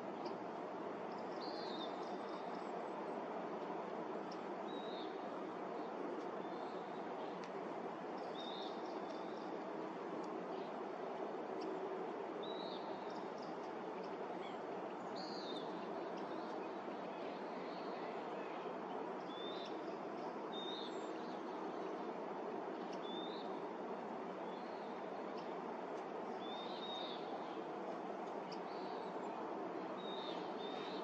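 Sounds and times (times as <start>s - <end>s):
outdoor ambient hiss: 0.0s - 31.0s.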